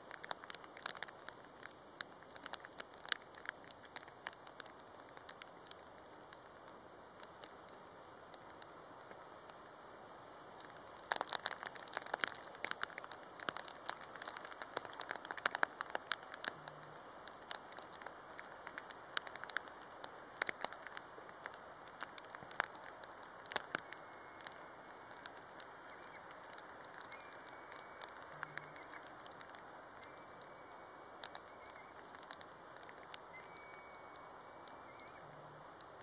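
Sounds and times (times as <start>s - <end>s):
rain hiss: 0.0s - 36.0s
raindrops ticking on surface: 0.0s - 36.0s.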